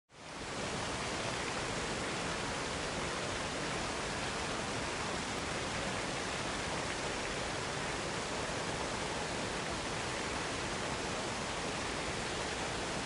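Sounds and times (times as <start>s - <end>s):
waterfall rushing: 0.3s - 13.0s.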